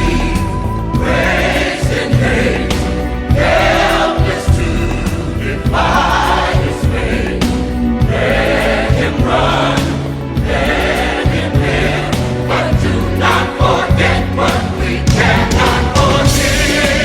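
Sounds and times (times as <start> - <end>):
choir singing: 0.0 - 17.0
low musical accompaniment: 0.0 - 17.0.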